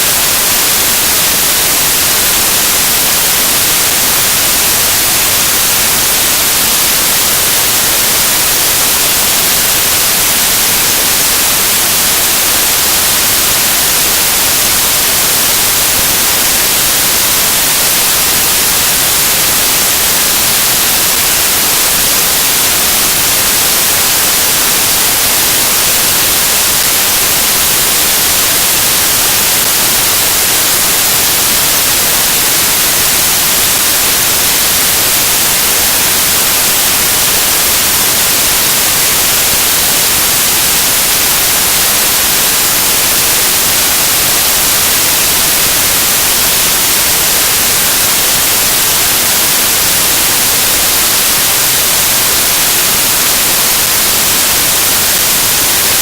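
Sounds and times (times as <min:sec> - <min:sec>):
loud static hiss: 0:00.0 - 0:56.0.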